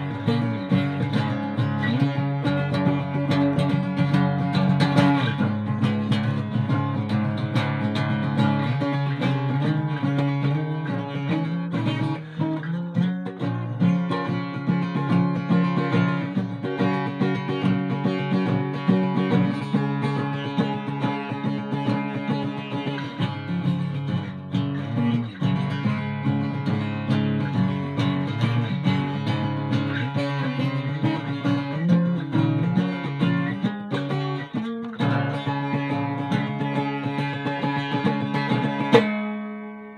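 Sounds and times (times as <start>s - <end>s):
acoustic guitar picked and strummed: 0.0s - 39.9s.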